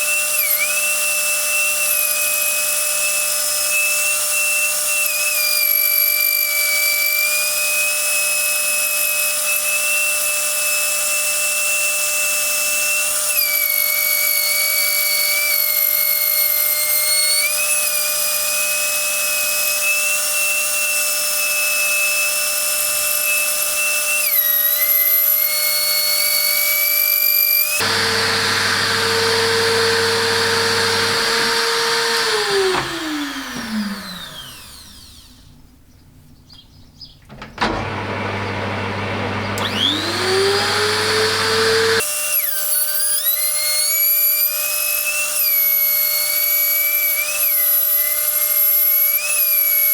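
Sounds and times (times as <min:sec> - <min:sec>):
high-speed grinder whining: 0:00.0 - 0:35.6, 0:37.4 - 0:49.9.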